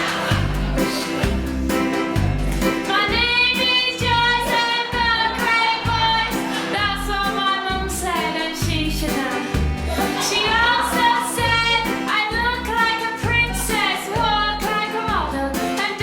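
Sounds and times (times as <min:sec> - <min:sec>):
backing track with bass beat: 0:00.0 - 0:16.0
young female voice singing: 0:02.9 - 0:16.0.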